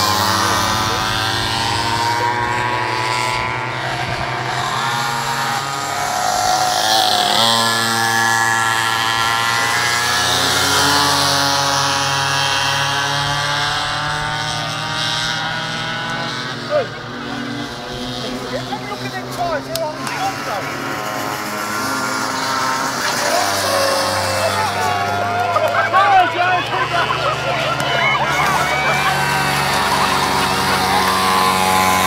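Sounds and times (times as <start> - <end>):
small two-stroke engines buzzing: 0.0 - 32.0.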